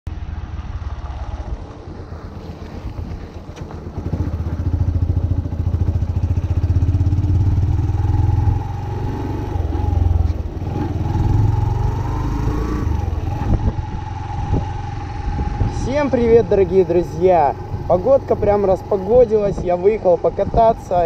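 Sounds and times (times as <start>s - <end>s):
motorcycle engine revving: 0.1s - 21.0s.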